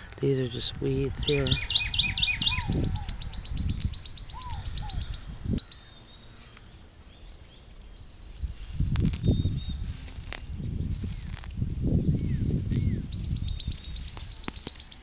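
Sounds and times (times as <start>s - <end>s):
birds slurred calls: 0.0s - 15.0s
songbird trilling: 0.0s - 15.0s.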